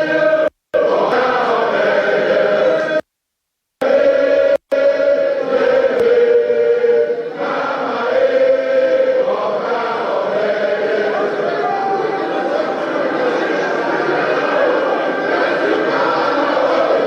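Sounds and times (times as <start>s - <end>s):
crowd chanting and singing: 0.0s - 3.0s, 3.8s - 17.0s.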